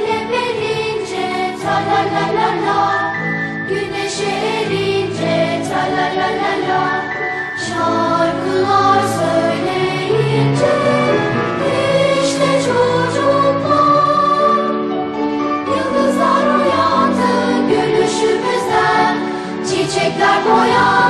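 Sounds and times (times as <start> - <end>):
choir singing: 0.0 - 21.0
instrumental backing: 0.1 - 21.0.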